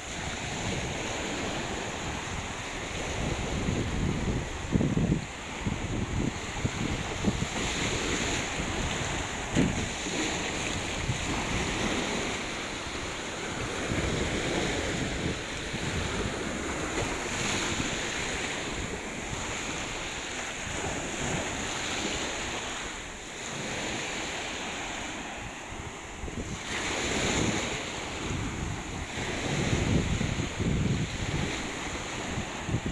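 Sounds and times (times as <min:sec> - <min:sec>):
sea waves washing ashore: 0:00.0 - 0:32.9
wind buffeting microphone: 0:00.0 - 0:32.9.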